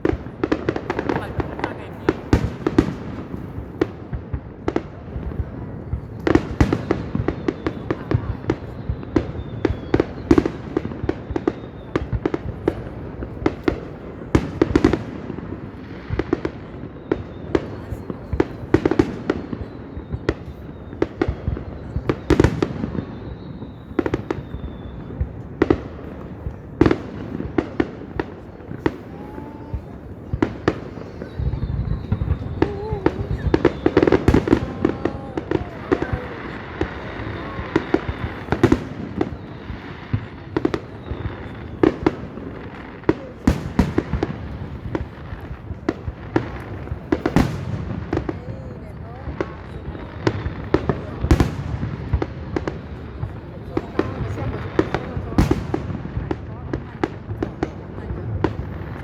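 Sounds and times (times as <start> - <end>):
crowd noise: 0.0 - 59.0
fireworks bursting: 0.0 - 59.0.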